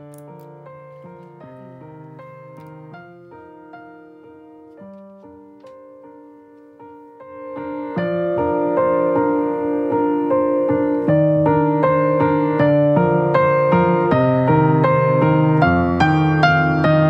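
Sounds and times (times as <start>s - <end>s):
piano playing: 0.0s - 17.0s.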